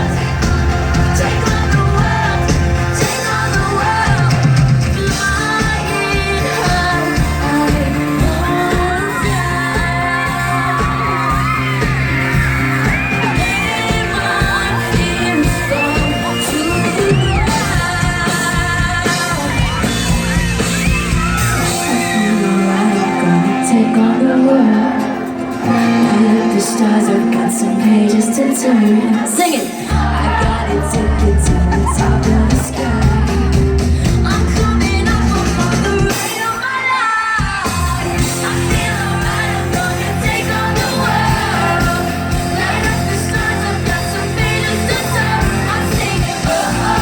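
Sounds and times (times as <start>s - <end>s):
audience yelling and screaming: 0.0s - 47.0s
live pop band playing: 0.0s - 47.0s
person singing: 0.0s - 47.0s.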